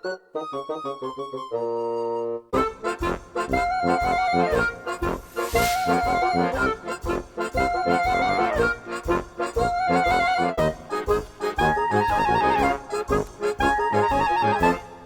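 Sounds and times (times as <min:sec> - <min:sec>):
music with steady beat: 0:02.6 - 0:15.0.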